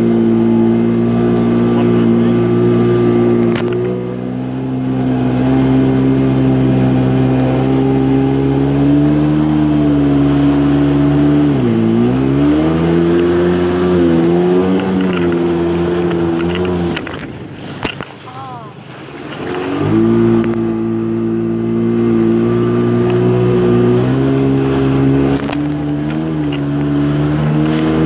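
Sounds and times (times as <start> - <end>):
jet ski engine running: 0.0 - 28.0.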